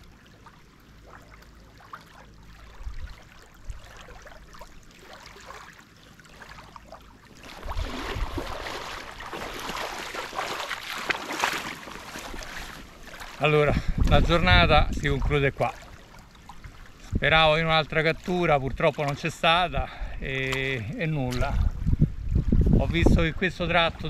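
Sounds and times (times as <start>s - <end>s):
small waves lapping: 0.0s - 24.0s
wading through shallow water: 0.0s - 24.0s.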